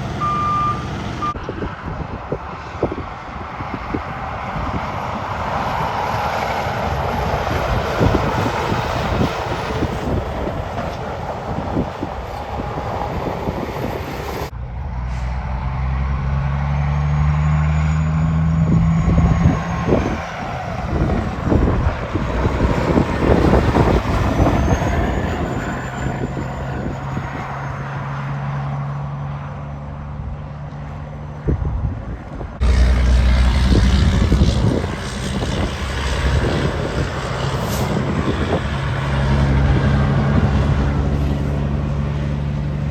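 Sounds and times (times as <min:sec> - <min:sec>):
road traffic: 0:00.0 - 0:42.9
truck engine running low: 0:00.0 - 0:42.9
truck going by: 0:00.0 - 0:42.9.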